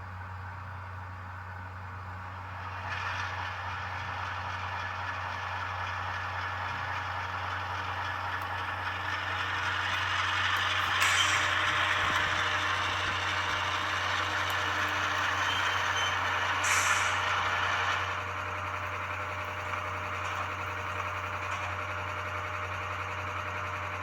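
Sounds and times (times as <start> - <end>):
model locomotive diesel engine sound: 0.0 - 24.0.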